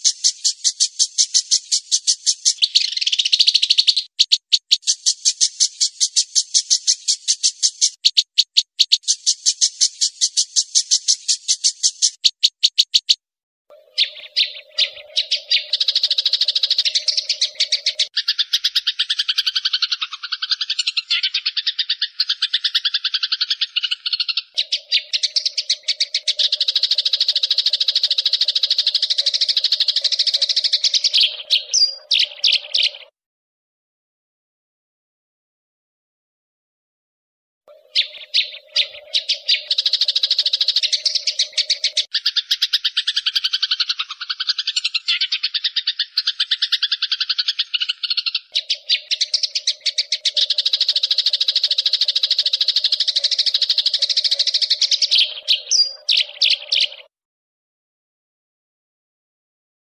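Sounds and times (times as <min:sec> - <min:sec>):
bird calls: 0:00.0 - 0:33.1, 0:37.7 - 0:57.1
songbird chirps and trill: 0:00.0 - 0:33.2, 0:37.7 - 0:57.1.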